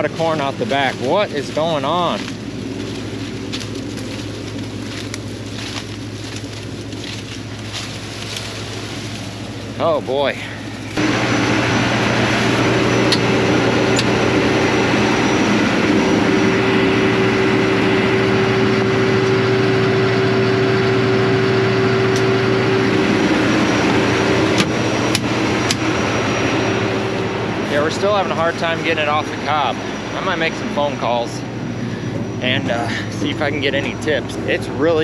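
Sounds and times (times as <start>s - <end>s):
combine harvester droning: 0.0s - 35.0s.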